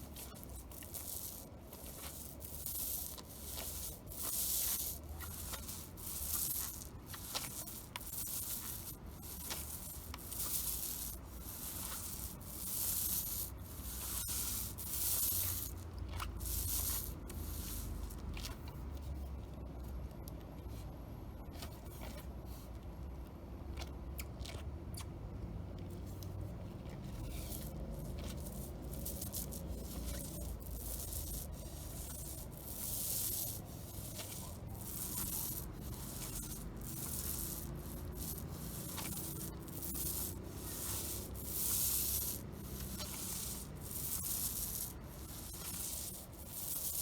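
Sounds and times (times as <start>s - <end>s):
brush rubbing on roof: 0.0s - 18.6s, 27.0s - 47.0s.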